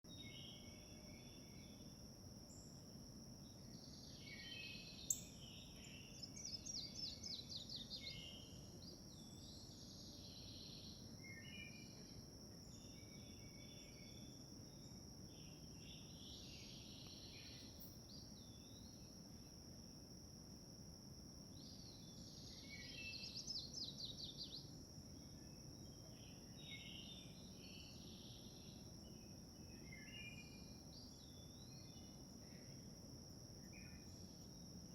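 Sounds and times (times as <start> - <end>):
faint bird chirps: 0.1 - 2.8, 3.4 - 19.5, 21.5 - 33.0
high insect drone: 0.1 - 34.9.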